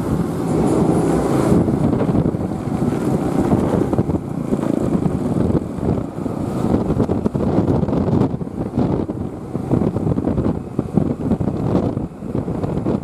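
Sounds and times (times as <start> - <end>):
bus engine rumbling: 0.0 - 13.0
wind buffeting microphone: 0.0 - 13.0.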